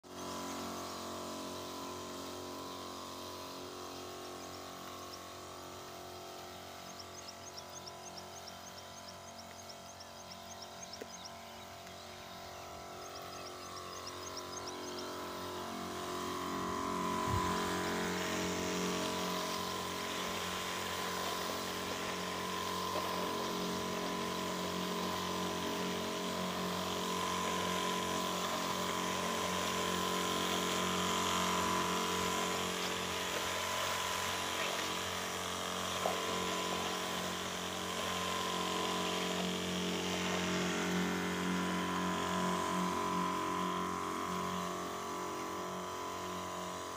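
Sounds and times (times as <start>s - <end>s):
sprayer pump humming: 0.0s - 46.9s.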